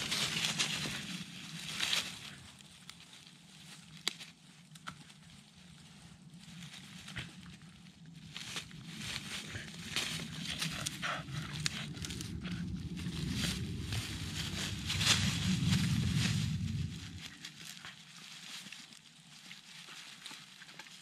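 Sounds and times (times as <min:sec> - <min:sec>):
dry leaves crackling: 0:00.0 - 0:21.0.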